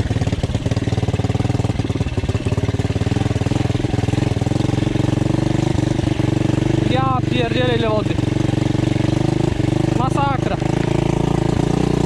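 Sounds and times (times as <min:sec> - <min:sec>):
pit bike engine running: 0:00.0 - 0:12.0.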